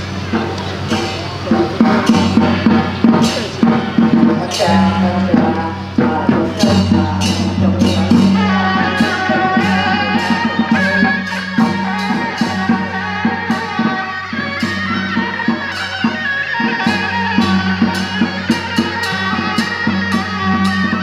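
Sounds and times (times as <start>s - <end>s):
drums and cymbals: 0.0s - 21.0s
wind instrument melody: 0.0s - 21.0s.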